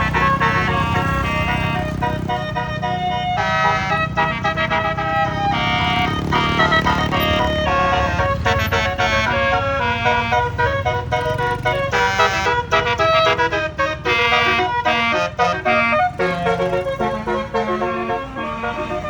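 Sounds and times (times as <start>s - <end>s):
low rumble of bus: 0.0s - 19.0s
musical air horn melody: 0.0s - 19.0s.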